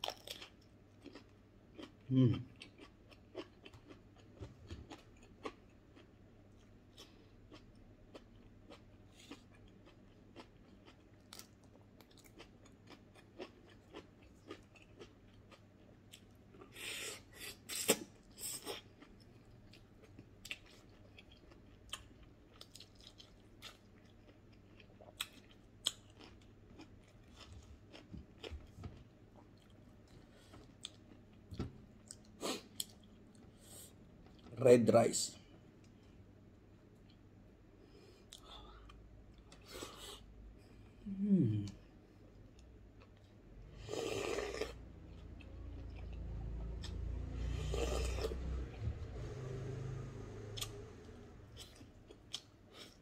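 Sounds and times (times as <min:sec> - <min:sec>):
person chewing and crunching food: 0:00.0 - 0:34.5, 0:42.2 - 0:48.8, 0:49.4 - 0:53.0.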